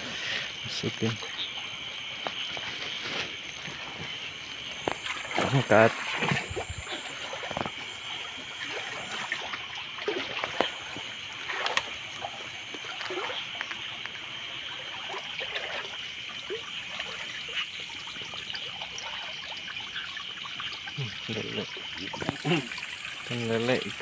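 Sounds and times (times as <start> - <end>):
wading through stream water: 0.0 - 24.0.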